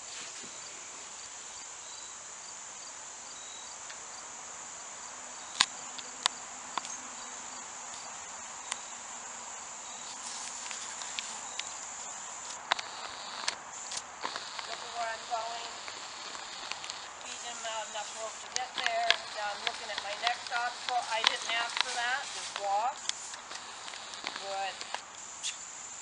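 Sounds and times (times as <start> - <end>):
cricket chirping: 0.0 - 26.0
insects trilling: 0.0 - 26.0.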